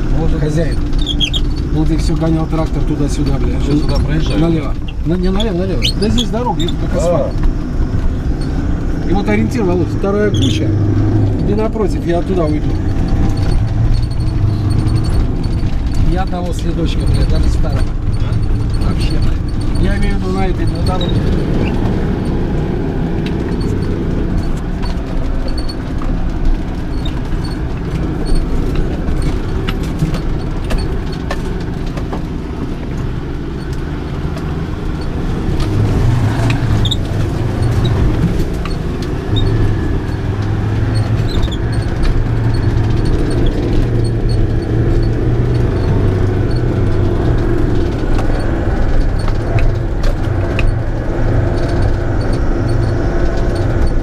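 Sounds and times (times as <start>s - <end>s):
knocks and rattles: 0.0s - 54.0s
vehicle engine drone: 0.0s - 54.0s.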